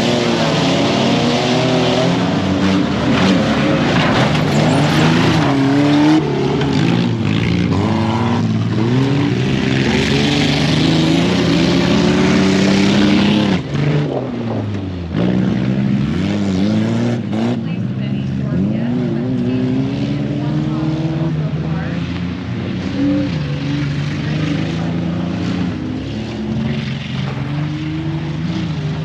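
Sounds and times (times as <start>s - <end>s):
truck engines revving hard: 0.0s - 29.0s.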